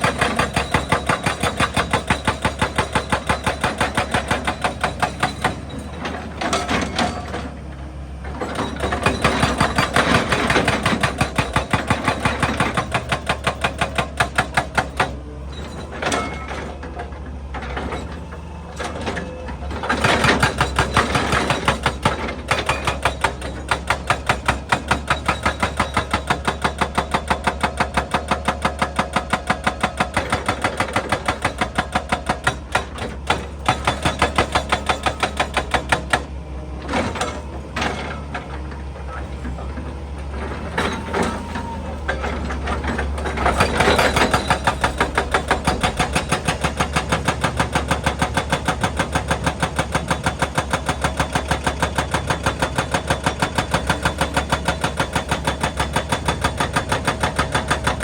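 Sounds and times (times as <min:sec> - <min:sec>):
hydraulic breaker hammering rock: 0:00.0 - 0:07.6, 0:08.2 - 0:58.0.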